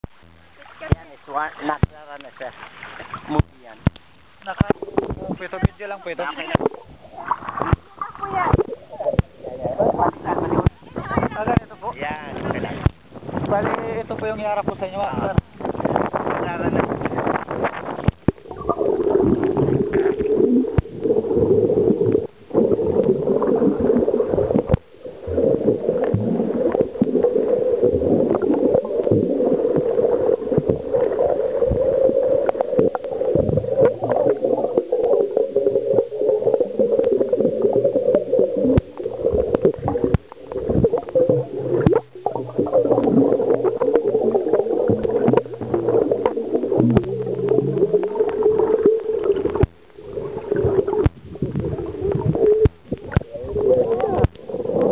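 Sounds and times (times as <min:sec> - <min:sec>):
low steady hum: 0:00.0 - 0:54.9
muffled underwater sloshing: 0:00.0 - 0:54.9.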